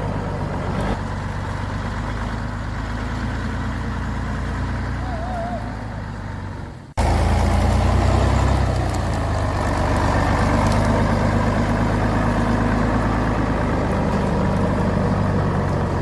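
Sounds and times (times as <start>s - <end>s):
heavy truck engine running: 0.0s - 16.0s.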